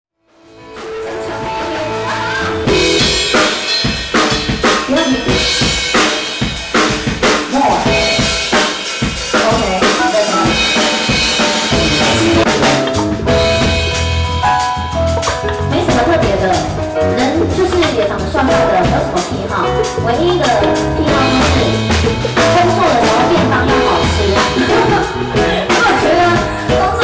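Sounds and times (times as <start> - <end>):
band playing music: 0.4 - 27.0
drum kit beat: 0.5 - 27.0.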